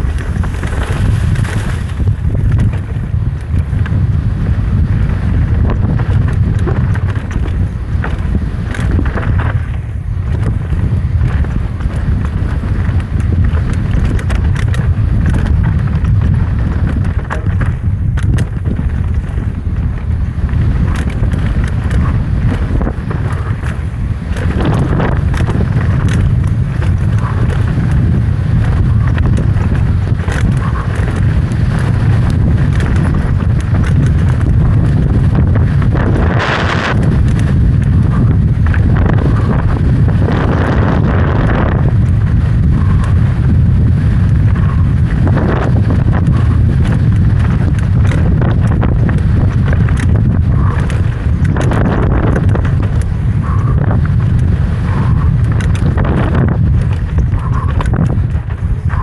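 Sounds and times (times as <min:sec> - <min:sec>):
bike rattling and knocking: 0:00.0 - 0:59.0
wind buffeting microphone: 0:00.0 - 0:59.0.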